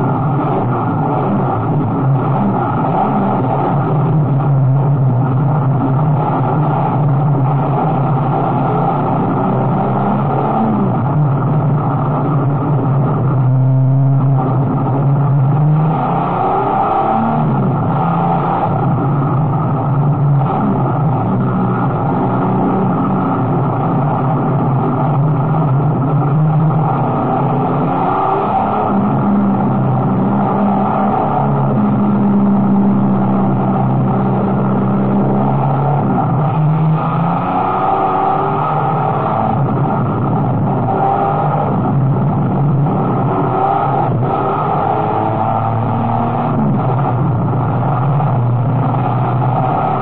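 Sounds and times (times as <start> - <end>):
race car engine running hard: 0.0 - 50.0.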